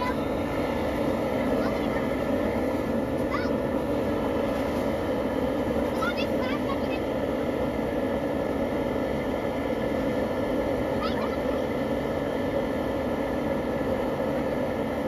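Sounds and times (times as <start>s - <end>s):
propane burner rushing: 0.0s - 15.0s.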